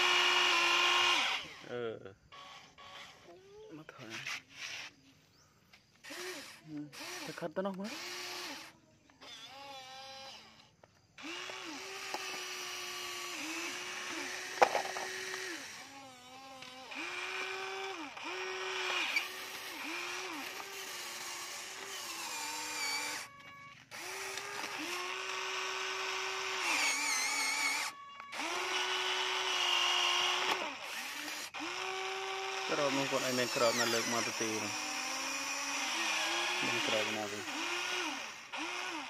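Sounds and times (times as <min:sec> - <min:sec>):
toy excavator motors whining: 0:00.0 - 0:39.0.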